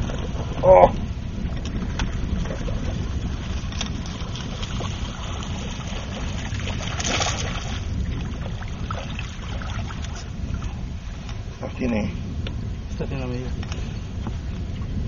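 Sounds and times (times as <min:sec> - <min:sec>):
water noise around boat: 0:00.0 - 0:15.0
wind rumble: 0:00.0 - 0:15.0.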